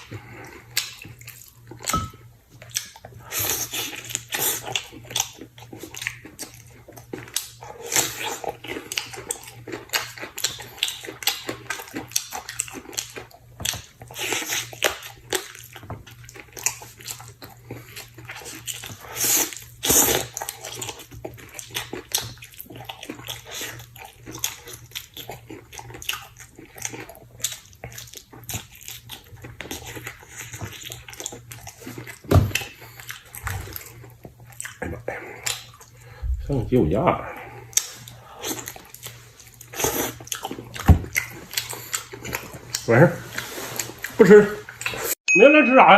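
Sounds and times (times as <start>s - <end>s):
wet chewing and lip-smacking: 0.0s - 36.2s, 37.4s - 45.2s.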